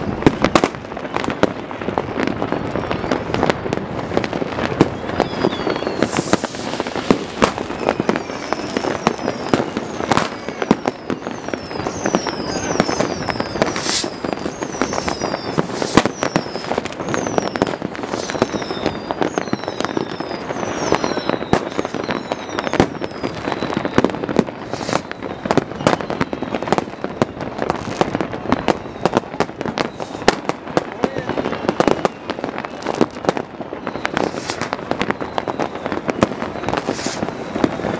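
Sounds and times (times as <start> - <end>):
fireworks bangs and crackles: 0.0 - 37.9
firework whistles falling in pitch: 0.1 - 37.9.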